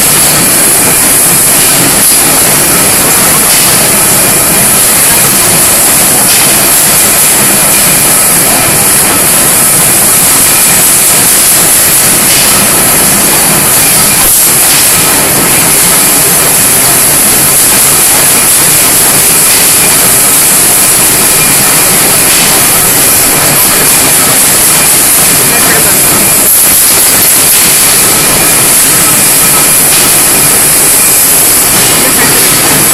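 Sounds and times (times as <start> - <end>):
bending machine running: 0.0 - 32.9.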